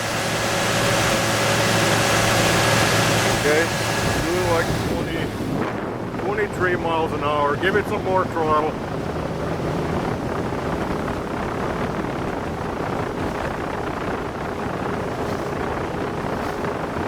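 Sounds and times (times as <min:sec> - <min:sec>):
outboard engine running: 0:00.0 - 0:17.0
water rushing past hull: 0:00.0 - 0:17.0
wind buffeting microphone: 0:00.0 - 0:17.0.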